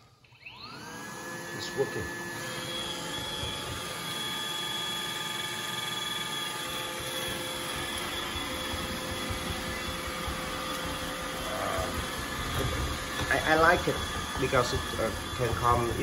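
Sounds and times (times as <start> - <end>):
robot vacuum whirring: 0.1 - 16.0.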